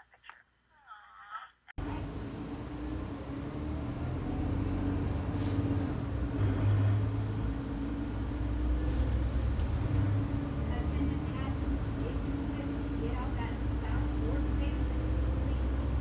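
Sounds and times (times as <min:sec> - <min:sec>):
low room rumble: 0:01.8 - 0:16.0.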